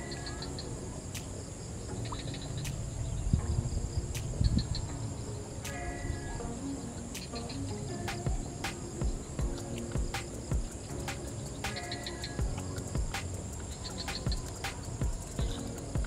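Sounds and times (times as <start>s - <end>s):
crickets and insects chirping: 0.0s - 16.0s.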